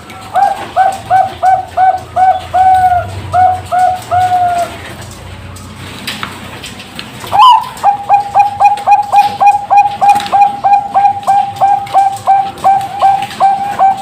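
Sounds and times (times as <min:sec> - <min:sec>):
dove cooing: 0:00.2 - 0:05.0, 0:07.3 - 0:14.0.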